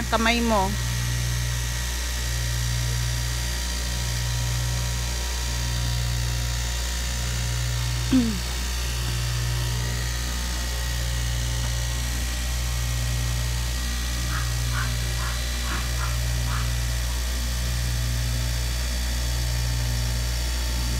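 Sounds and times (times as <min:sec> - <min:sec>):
cloth cutting machine humming: 0:00.0 - 0:20.9.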